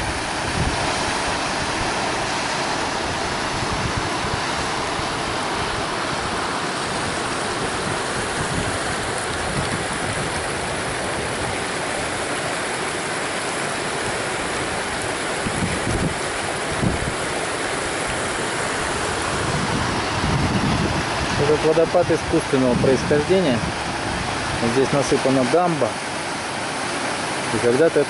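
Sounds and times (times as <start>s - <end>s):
river rushing over stones: 0.0s - 28.0s.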